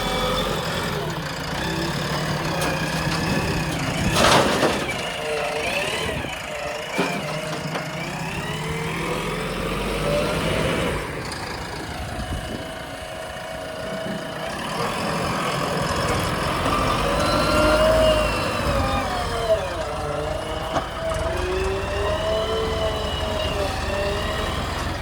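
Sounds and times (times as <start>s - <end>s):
diesel engine revving under load: 0.0s - 25.0s.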